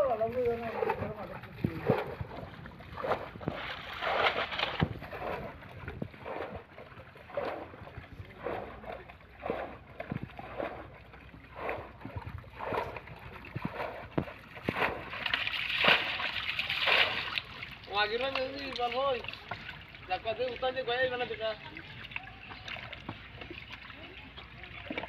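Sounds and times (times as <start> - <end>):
muddy water sloshing and splashing: 0.0 - 25.0.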